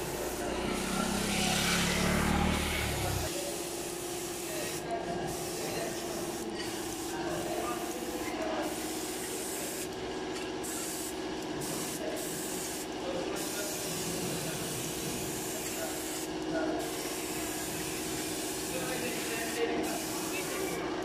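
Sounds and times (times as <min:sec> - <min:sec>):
paint spray gun hissing: 0:00.0 - 0:01.0, 0:02.9 - 0:09.9, 0:10.6 - 0:20.8.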